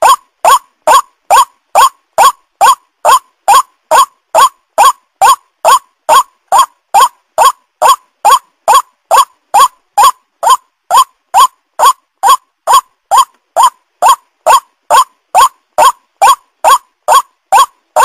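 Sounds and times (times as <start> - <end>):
waterhen call: 0.0 - 18.0.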